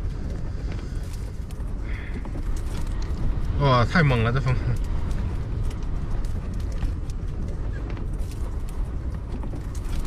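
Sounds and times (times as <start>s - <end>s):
strong wind buffeting: 0.0s - 10.0s.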